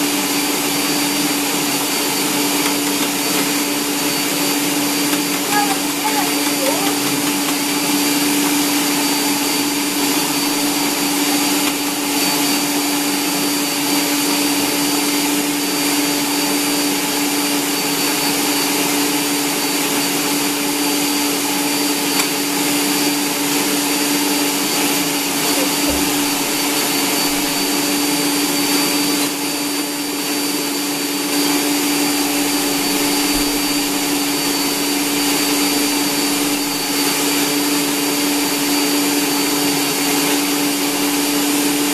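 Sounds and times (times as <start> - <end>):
stand mixer motor humming: 0.0 - 41.9.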